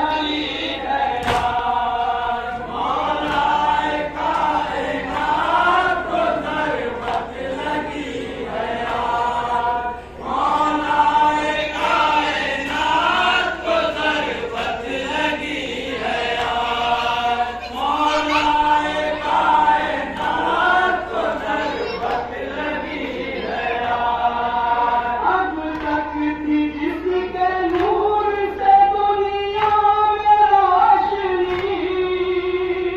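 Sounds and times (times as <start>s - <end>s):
men chanting through microphone: 0.0s - 32.9s.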